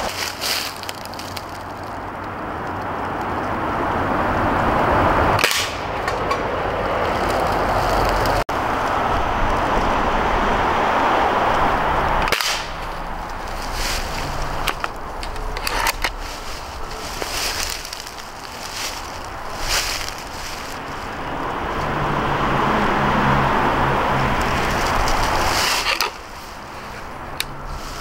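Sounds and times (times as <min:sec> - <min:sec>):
steady rushing background noise: 0:00.0 - 0:28.0.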